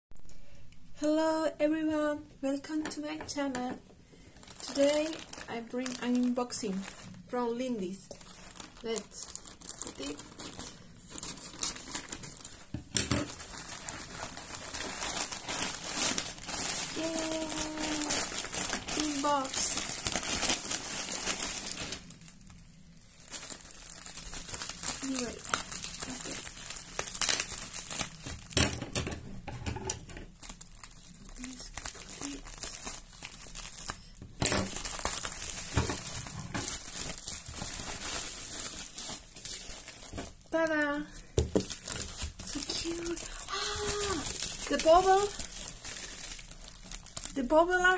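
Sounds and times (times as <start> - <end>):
plastic mailer crinkling: 3.3 - 29.1, 30.0 - 47.9.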